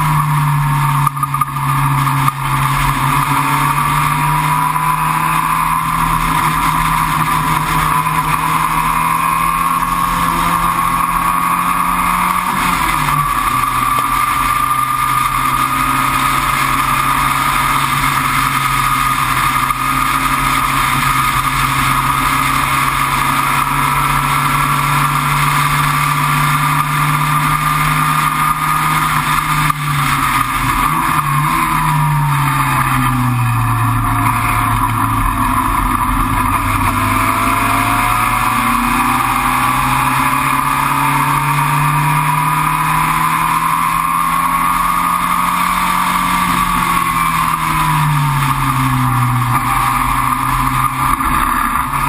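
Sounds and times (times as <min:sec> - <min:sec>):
racing car engine running hard: 0:00.0 - 0:52.0.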